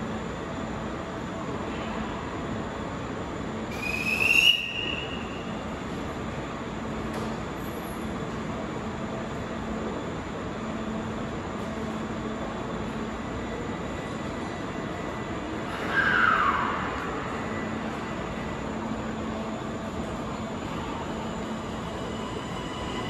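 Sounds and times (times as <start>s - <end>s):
train hum at platform: 0.0s - 23.0s.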